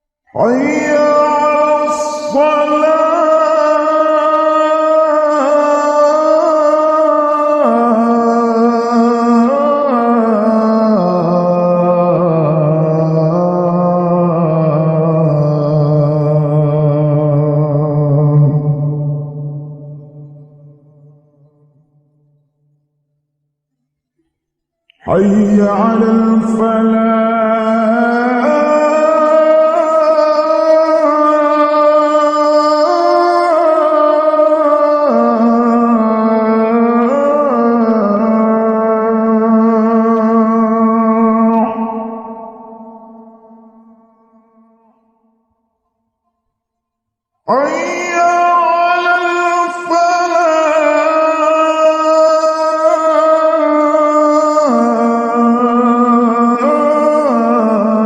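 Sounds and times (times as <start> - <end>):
person chanting call to prayer: 0.3 - 22.9, 24.9 - 45.5, 47.4 - 58.0.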